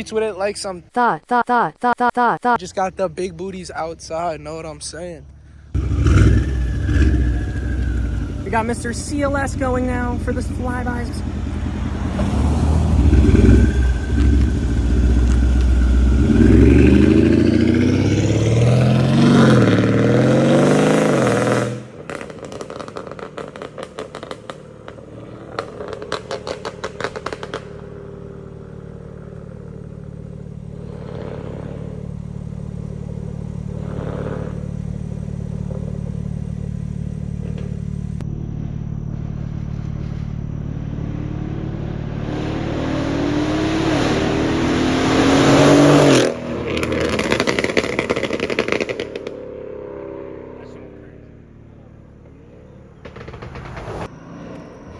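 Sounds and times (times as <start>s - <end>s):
exhaust crackles and pops: 2.6s - 38.3s, 43.5s - 49.7s, 51.7s - 54.7s
car engine accelerating hard: 5.7s - 54.9s.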